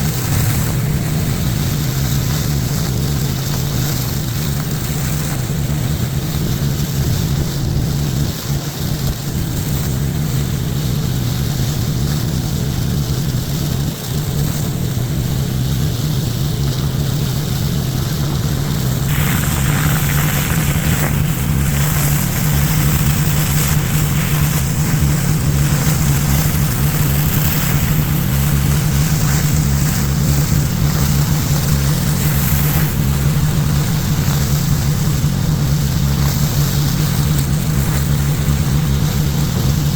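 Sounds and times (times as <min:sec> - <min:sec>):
pressure washer engine running: 0:00.0 - 0:39.9
water jet spraying pavement: 0:00.0 - 0:39.9.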